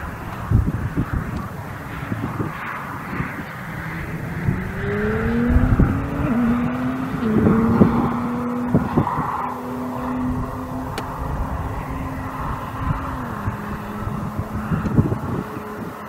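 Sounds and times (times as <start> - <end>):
car engine accelerating: 0.0 - 16.0
sharp exhaust cracks: 0.0 - 16.0.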